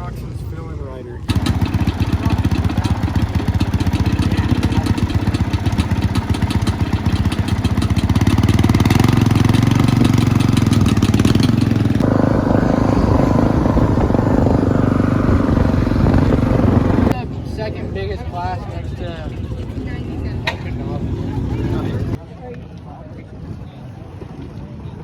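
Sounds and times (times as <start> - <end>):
dirt bike engine running: 1.3 - 17.7, 18.4 - 22.2.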